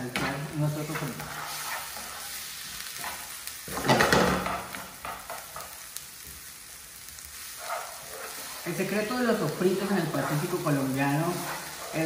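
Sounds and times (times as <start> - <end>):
vegetables sizzling in a frying pan: 0.0 - 12.0
utensil scraping a pan: 0.1 - 5.7, 7.4 - 12.0.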